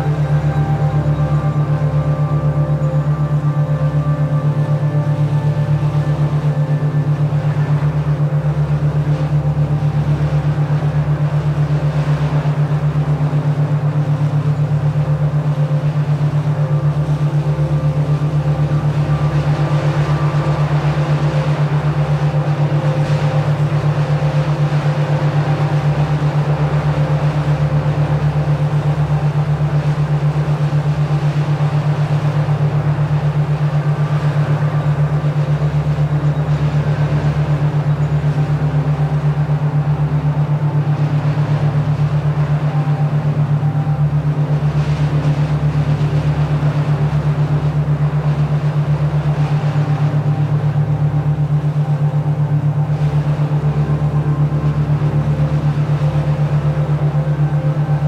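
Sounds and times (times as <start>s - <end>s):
pulsing low humming tone: 0.0s - 58.0s
sustained ambient tones: 0.0s - 58.0s.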